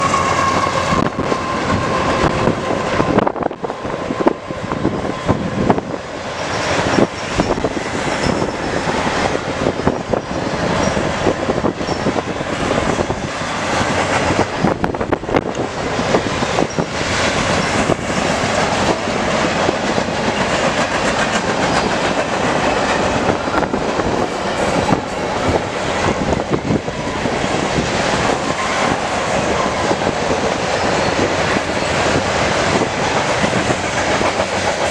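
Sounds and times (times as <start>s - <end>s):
freight train rumbling past: 0.0s - 34.9s
wheels clacking over rail joints: 0.0s - 34.9s.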